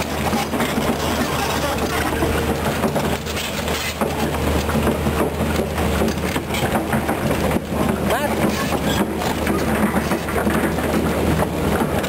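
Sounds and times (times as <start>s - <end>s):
excavator diesel engine running: 0.0s - 12.0s
steel tracks clanking: 0.0s - 12.0s.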